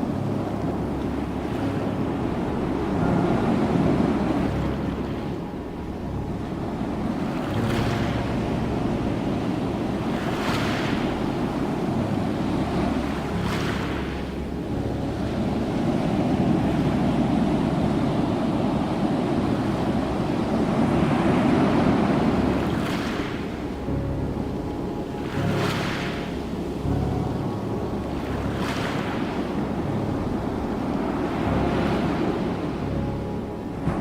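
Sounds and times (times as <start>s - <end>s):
ocean waves rushing: 0.0s - 34.0s.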